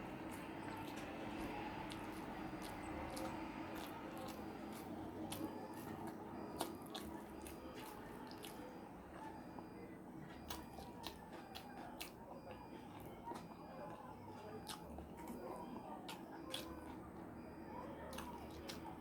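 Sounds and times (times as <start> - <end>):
low background hum: 0.0 - 19.0
person chewing food: 0.0 - 19.0.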